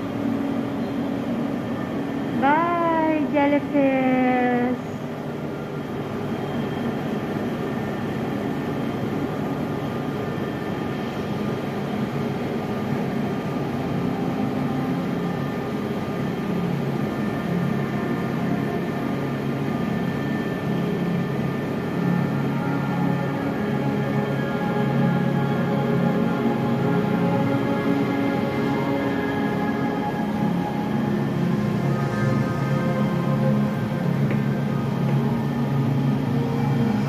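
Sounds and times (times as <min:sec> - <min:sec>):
steady droning hum: 0:00.0 - 0:37.0.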